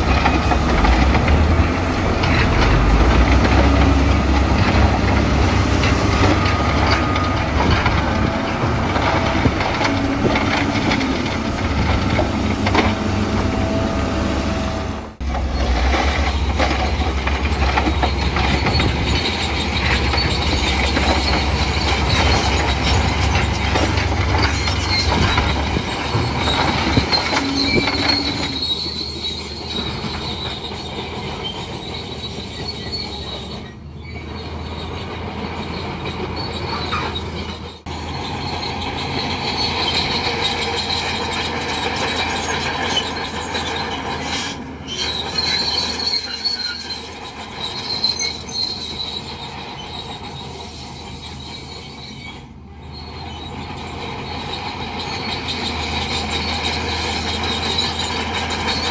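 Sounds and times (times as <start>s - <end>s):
bulldozer diesel engine: 0.0s - 58.9s
steel tracks clanking and squealing: 0.0s - 58.9s.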